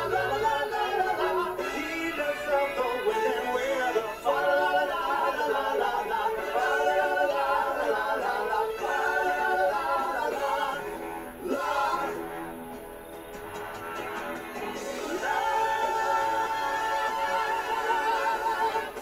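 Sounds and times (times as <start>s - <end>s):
male a cappella group singing: 0.0s - 12.6s, 14.8s - 19.0s.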